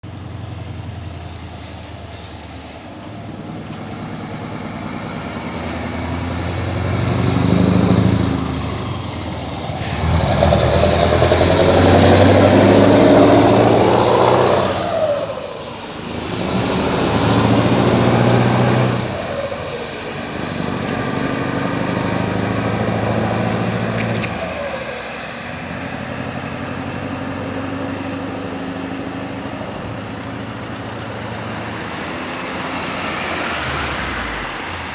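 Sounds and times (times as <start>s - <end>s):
truck engine through open exhaust: 0.0s - 34.9s.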